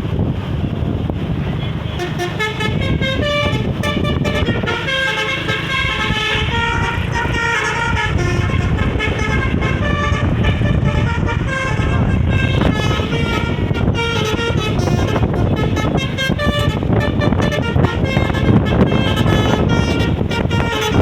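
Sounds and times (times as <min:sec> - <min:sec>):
steady low rumble: 0:00.0 - 0:21.0
bus horn melody: 0:01.9 - 0:21.0.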